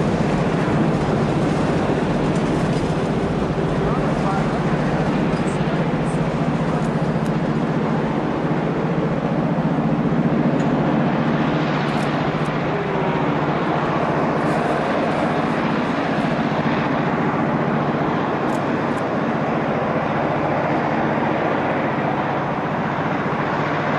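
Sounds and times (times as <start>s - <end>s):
diesel locomotive engine drone: 0.0s - 23.9s.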